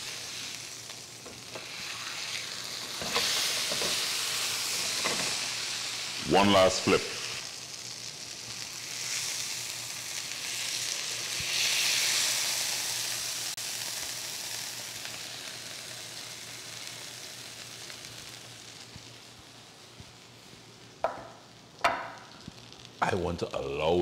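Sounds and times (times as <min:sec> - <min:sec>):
steak sizzling in a pan: 0:00.0 - 0:23.0.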